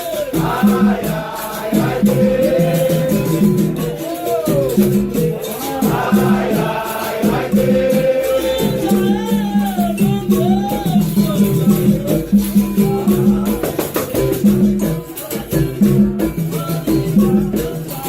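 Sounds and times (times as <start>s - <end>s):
shaker rattling: 0.0s - 18.0s.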